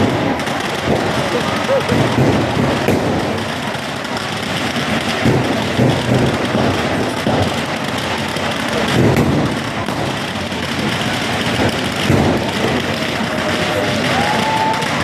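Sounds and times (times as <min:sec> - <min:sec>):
firework booms: 0:00.0 - 0:15.0
loud noisy din: 0:00.0 - 0:15.0.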